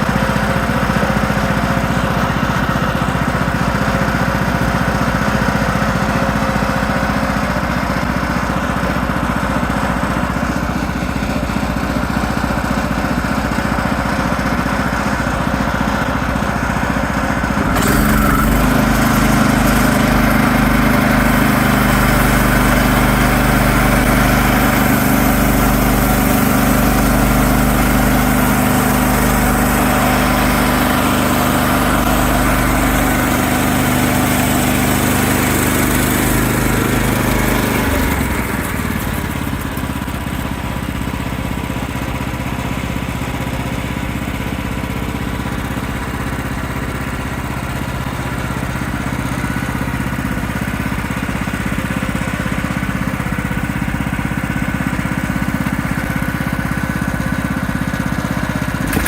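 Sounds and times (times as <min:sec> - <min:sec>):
sawmill gas engine running: 0:00.0 - 0:59.0.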